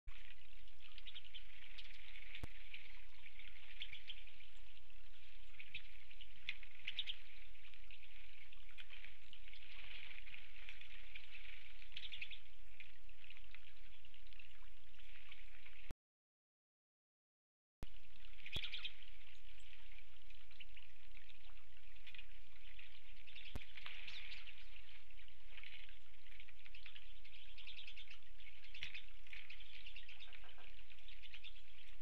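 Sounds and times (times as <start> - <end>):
flock of small birds twittering: 0.1 - 15.9, 18.0 - 32.0.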